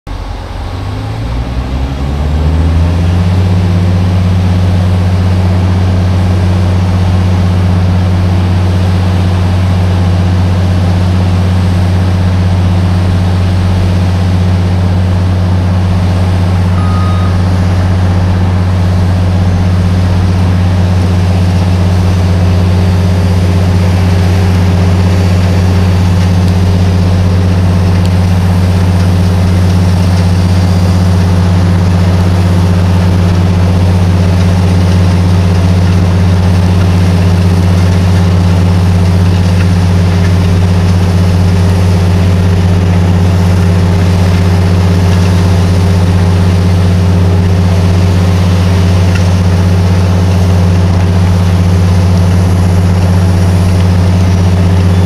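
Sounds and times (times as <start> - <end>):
diesel engine droning: 0.1 - 55.0.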